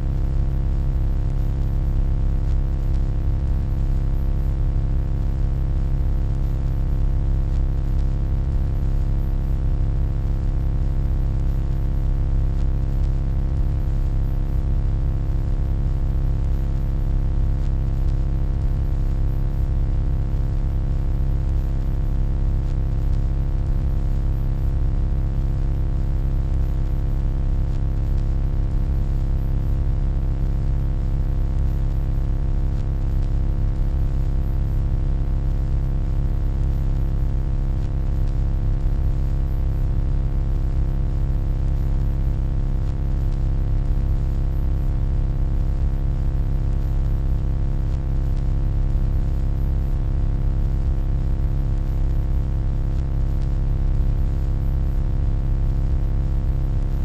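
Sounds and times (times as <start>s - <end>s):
electronic hum: 0.0s - 46.0s, 50.7s - 51.2s.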